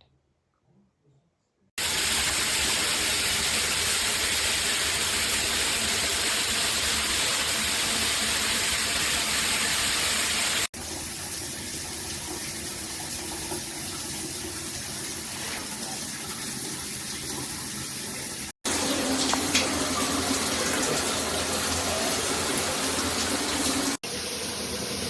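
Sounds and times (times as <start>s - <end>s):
water streaming from shower head: 1.8s - 25.0s.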